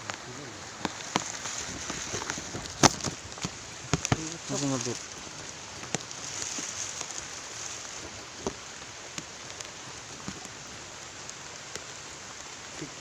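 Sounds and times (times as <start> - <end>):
rain hissing: 0.0 - 13.0
raindrops tapping close by: 0.0 - 13.0.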